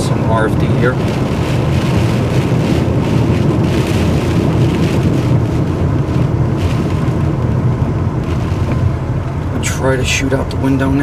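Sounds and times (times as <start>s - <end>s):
rain on windshield: 0.0s - 11.0s
vehicle interior rumble: 0.0s - 11.0s
wind buffeting vehicle: 0.0s - 11.0s
windshield wipers sweeping: 0.0s - 11.0s.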